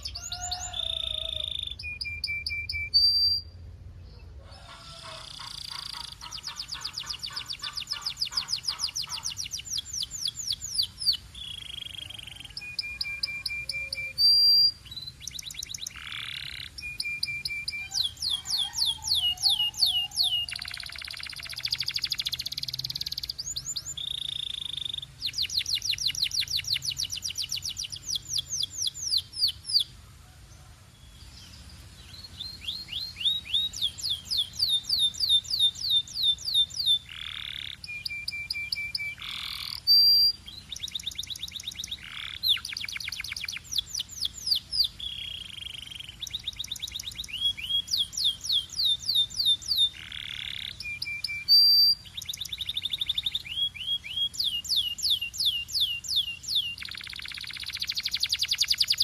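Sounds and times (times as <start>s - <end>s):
canary singing trills: 0.0s - 30.1s, 30.9s - 59.0s.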